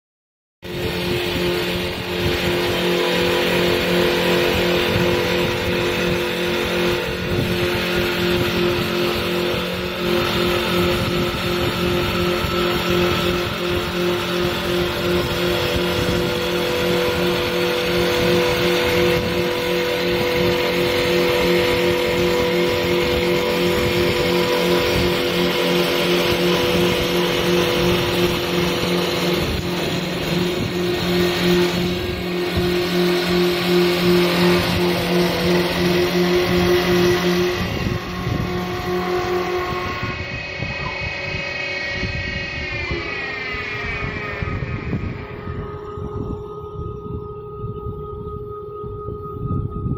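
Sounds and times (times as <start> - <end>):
lathe cutting wood: 0.6 - 47.4
machine whine: 0.6 - 49.9
steady machine hum: 0.6 - 49.9.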